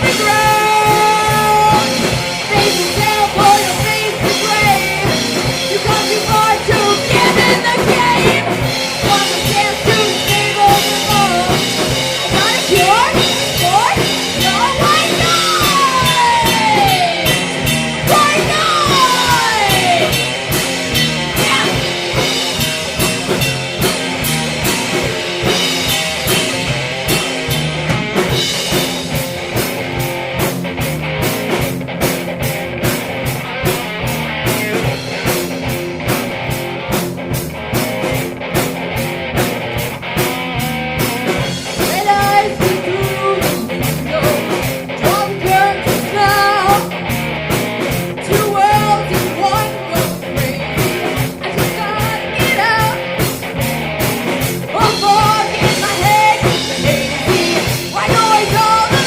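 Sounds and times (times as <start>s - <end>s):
driving drum beat: 0.0s - 59.0s
rock band playing: 0.0s - 59.0s.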